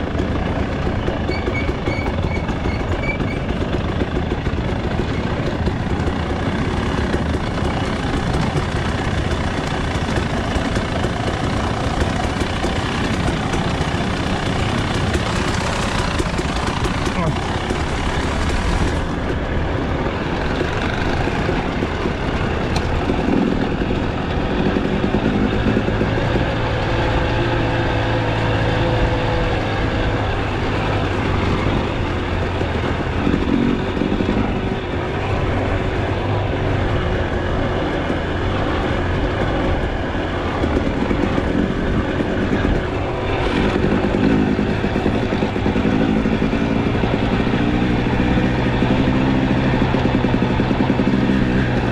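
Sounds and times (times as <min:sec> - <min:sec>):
dirt bike engine revving: 0:01.3 - 0:19.2, 0:20.2 - 0:51.9.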